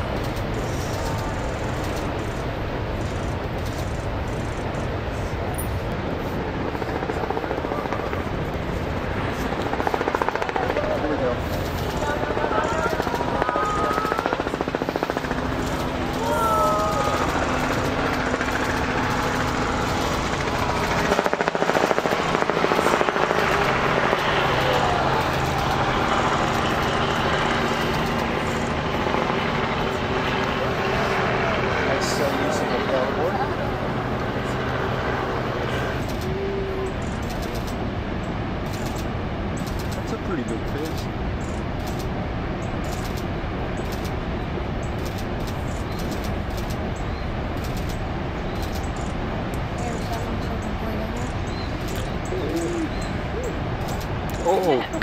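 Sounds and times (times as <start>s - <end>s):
breaking surf roar: 0.0s - 49.8s
engine drone: 0.0s - 55.0s
wind: 0.0s - 55.0s.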